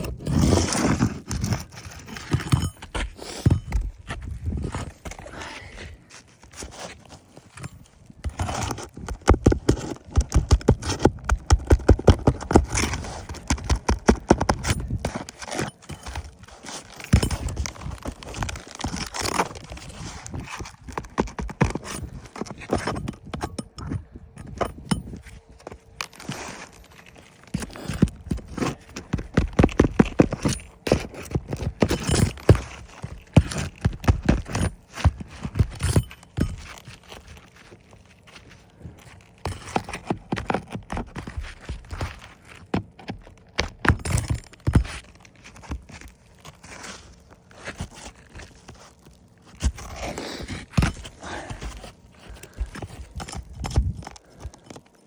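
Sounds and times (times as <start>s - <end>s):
scraping on roof shingles: 0.0s - 55.0s.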